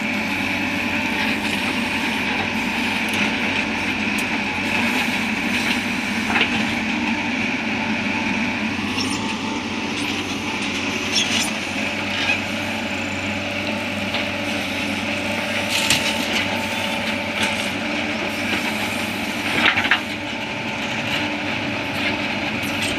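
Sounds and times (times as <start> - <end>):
diesel engines running: 0.0 - 22.9.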